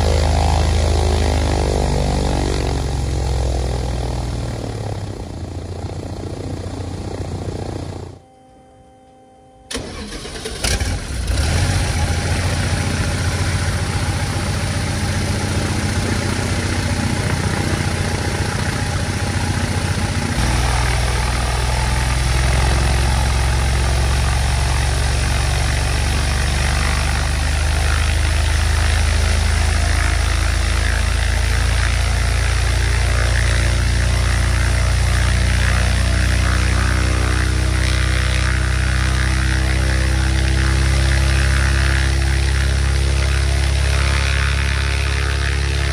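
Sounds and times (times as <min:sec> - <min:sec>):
aircraft engine and propeller: 0:00.0 - 0:45.9.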